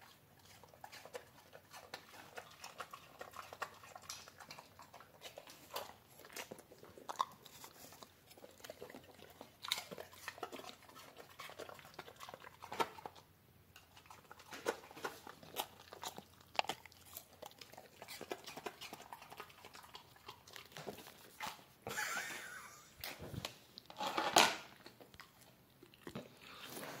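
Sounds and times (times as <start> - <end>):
dog chewing on a chew: 0.0 - 21.7.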